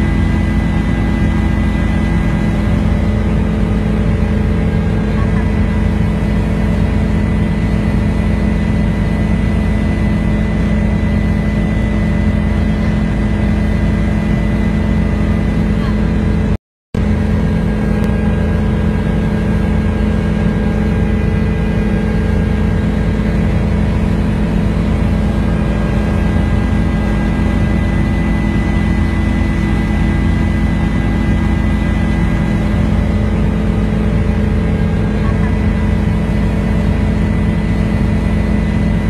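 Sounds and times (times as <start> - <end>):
aircraft engine drone in cabin: 0.0 - 39.0.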